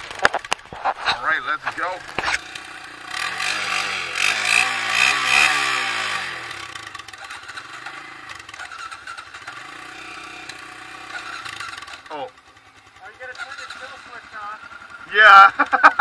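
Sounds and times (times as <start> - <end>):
atv engine revving and idling: 0.0 - 16.0.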